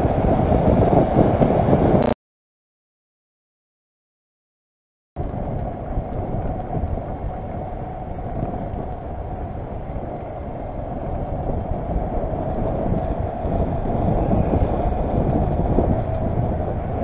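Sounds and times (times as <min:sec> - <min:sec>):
motorcycle engine and road noise: 0:00.0 - 0:02.2, 0:05.2 - 0:17.0.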